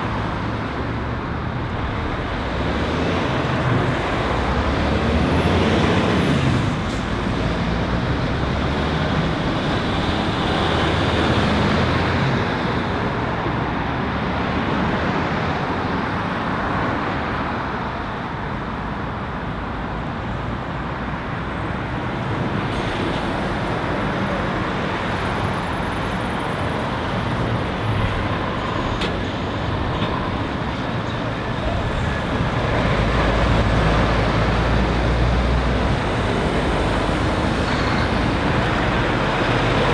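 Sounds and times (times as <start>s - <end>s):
cars passing: 0.0s - 39.9s
lorry diesel engines: 0.0s - 39.9s.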